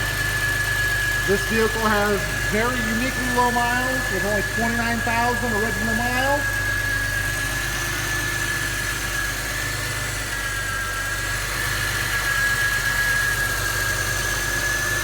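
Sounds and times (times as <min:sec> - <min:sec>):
high-pitched whine: 0:00.0 - 0:14.0
car engine idling: 0:00.0 - 0:15.0.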